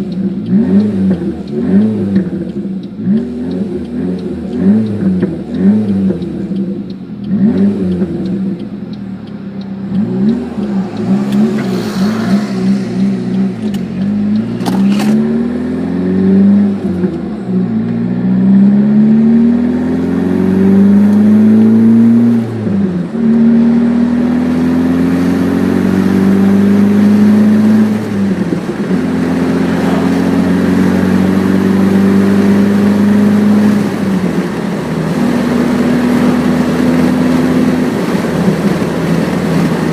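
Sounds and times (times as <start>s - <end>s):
car accelerating through gears: 0.0s - 39.9s
car engine revving: 0.0s - 39.9s.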